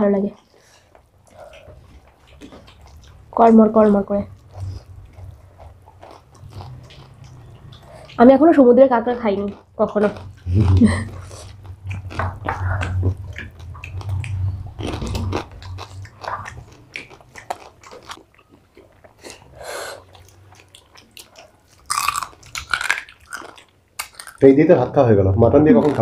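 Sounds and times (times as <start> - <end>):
chewing and crunching: 0.0 - 26.0.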